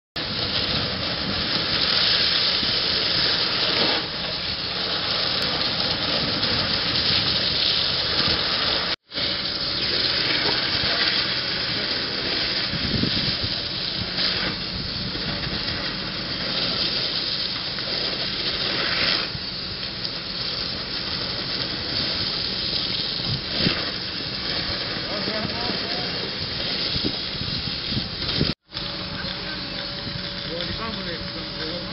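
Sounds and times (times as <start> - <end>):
water spray and steam hissing: 0.2 - 31.9.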